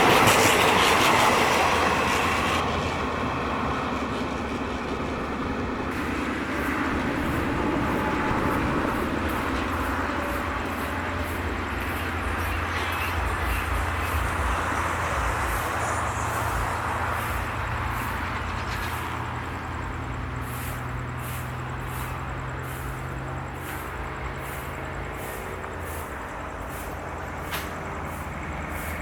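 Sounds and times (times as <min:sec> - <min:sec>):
train wheels clicking over rail joints: 0:00.0 - 0:29.0
steady low hum: 0:04.4 - 0:29.0.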